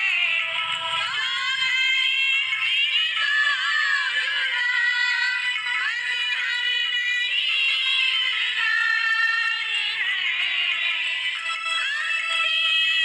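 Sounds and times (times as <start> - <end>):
women singing over sound system: 0.0 - 11.2.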